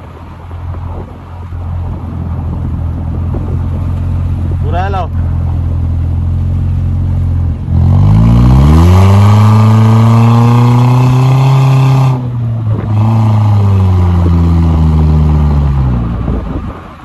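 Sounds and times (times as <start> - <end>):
car engine revving: 0.2 - 17.0.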